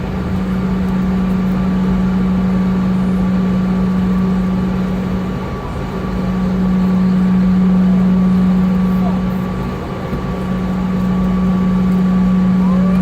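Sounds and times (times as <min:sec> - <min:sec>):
airplane cabin drone: 0:00.0 - 0:13.0
faint steady whine: 0:00.0 - 0:13.0.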